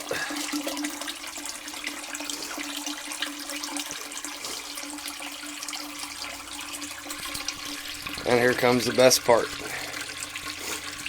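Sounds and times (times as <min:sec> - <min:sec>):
water running into toilet: 0:00.0 - 0:11.0.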